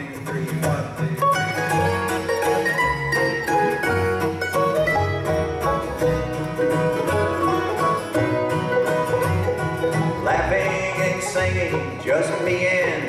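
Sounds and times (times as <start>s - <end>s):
banjo: 0.0s - 13.0s
flatpicked acoustic guitar: 0.0s - 13.0s
mandolin: 0.0s - 13.0s
upright bass: 0.0s - 13.0s.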